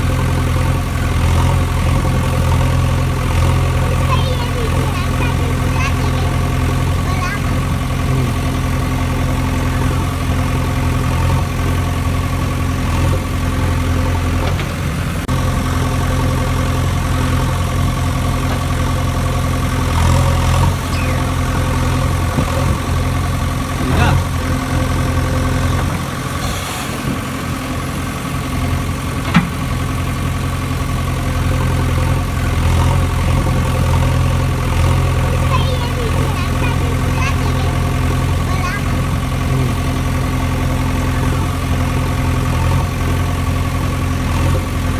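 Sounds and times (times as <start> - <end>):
engine idling hum: 0.0 - 44.9.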